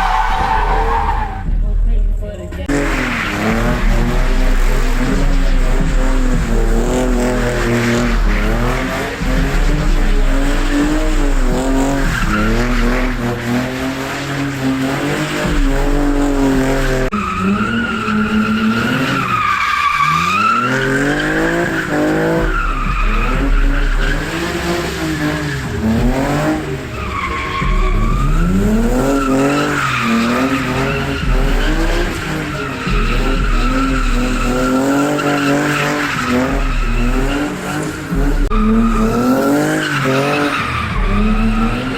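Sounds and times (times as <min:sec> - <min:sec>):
tyres squealing: 0:00.0 - 0:01.7, 0:02.3 - 0:41.9
car engines revving: 0:00.0 - 0:41.9.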